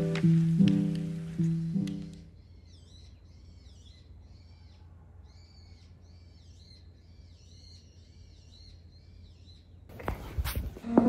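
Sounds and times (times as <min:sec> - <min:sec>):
small birds chirping: 0:00.0 - 0:10.5.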